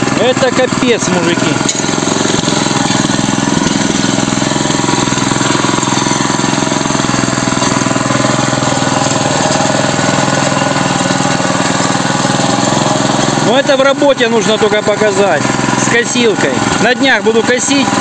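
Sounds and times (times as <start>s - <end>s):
small tractor engine puttering: 0.0s - 18.0s.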